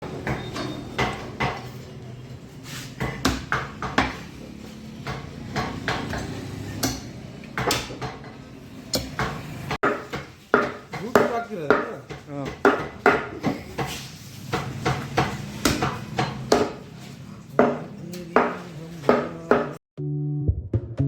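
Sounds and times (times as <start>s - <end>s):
utensils and pots clattering: 0.0s - 2.0s, 3.0s - 19.8s.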